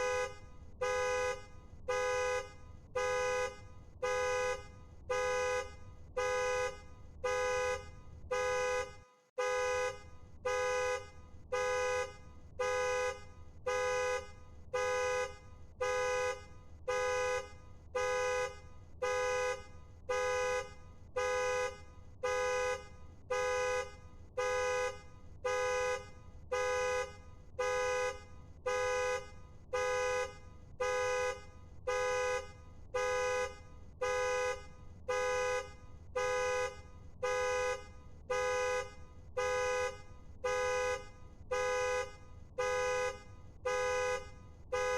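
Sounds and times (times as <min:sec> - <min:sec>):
car horn two-tone honks: 0:00.0 - 0:44.9.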